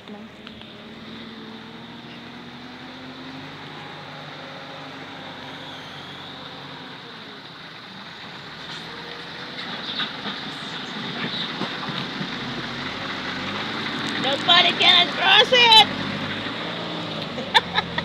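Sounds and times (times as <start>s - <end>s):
truck engine humming: 0.0s - 18.0s.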